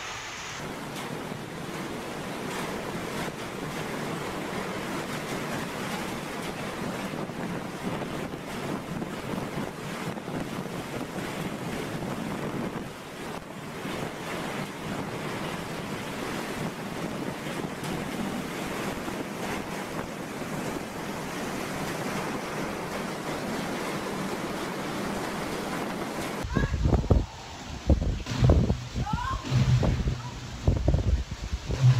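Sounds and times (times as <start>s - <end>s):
strong wind with driving rain: 0.0s - 31.9s.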